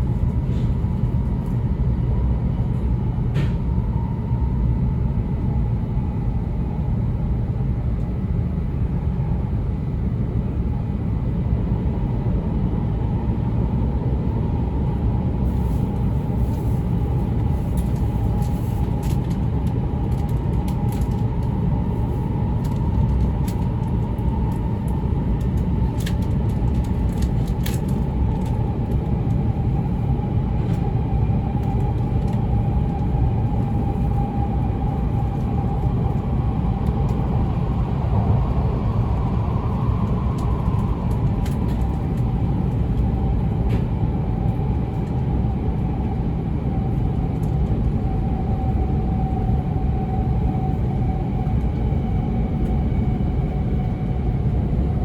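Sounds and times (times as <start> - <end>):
deep train rumble: 0.0 - 55.0.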